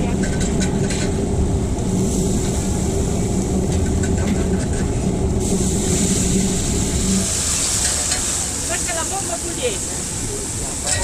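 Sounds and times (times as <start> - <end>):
low mechanical hum: 0.0 - 11.0
hissing sizzle on grill: 1.8 - 11.0.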